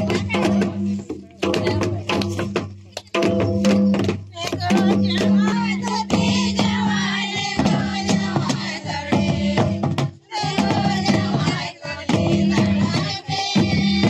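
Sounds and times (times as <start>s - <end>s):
voices singing: 0.0s - 2.3s, 4.3s - 14.0s
barrel drums beating: 0.0s - 14.0s.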